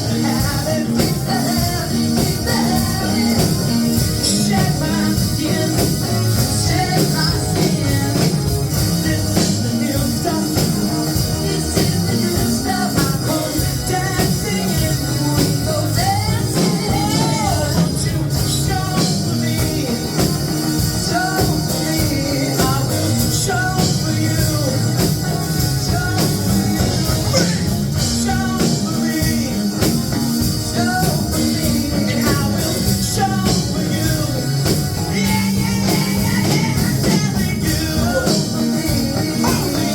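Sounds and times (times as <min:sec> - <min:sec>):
rock music with singing: 0:00.0 - 0:39.9
steady drum beat: 0:00.0 - 0:39.9.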